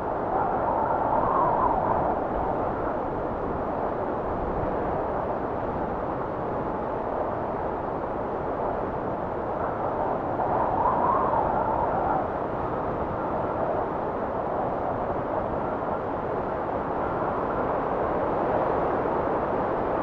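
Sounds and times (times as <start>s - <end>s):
blizzard wind blowing: 0.0s - 20.0s.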